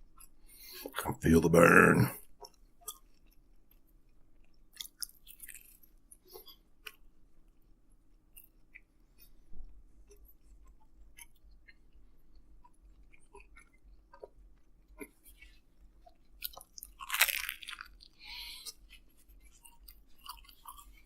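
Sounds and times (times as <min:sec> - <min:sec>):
mouth chewing food: 0:02.0 - 0:21.0.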